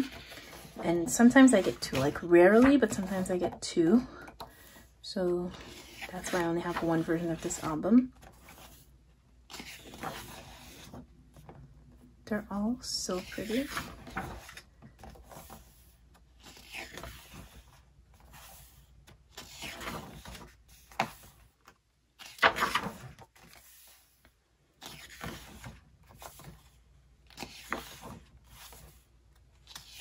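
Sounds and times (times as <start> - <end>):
pages turning: 0.0 - 3.3, 5.5 - 8.9, 9.5 - 11.6, 13.2 - 30.0.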